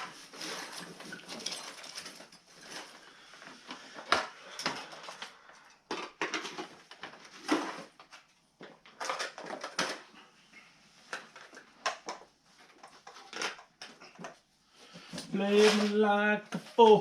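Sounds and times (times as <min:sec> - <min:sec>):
parts and tools clicking and rattling: 0:00.0 - 0:10.2, 0:11.0 - 0:15.8.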